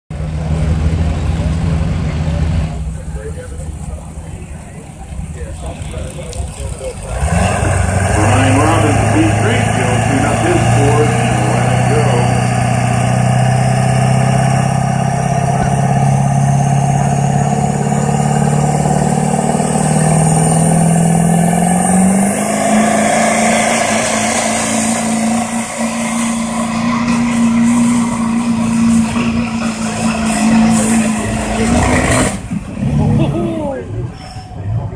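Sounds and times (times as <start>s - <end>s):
diesel truck engine under load: 0.1s - 34.9s.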